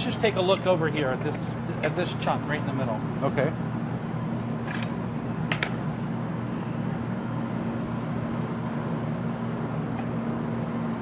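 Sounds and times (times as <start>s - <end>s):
kitchen ventilation hum: 0.0s - 11.0s.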